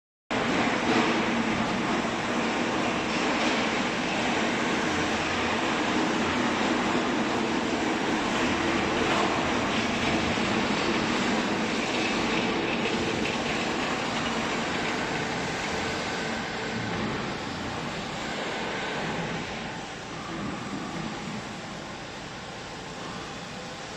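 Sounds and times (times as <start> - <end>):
hydraulic motor and pump humming: 0.3 - 23.9.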